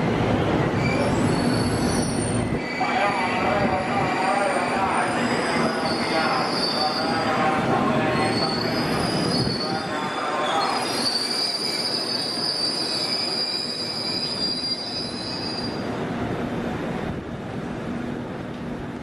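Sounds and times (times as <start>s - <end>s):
rumbling of moving train: 0.0s - 19.0s
train wheels squealing on rails: 0.6s - 15.9s.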